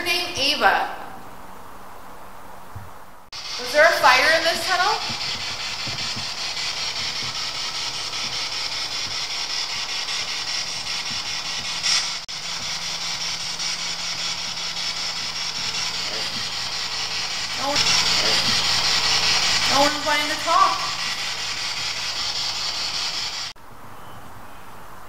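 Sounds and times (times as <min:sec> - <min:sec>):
static hiss: 0:02.6 - 0:23.6.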